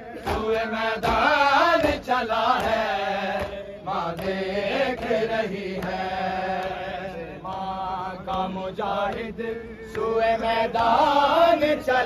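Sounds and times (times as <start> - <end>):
men singing a lament: 0.0 - 12.0.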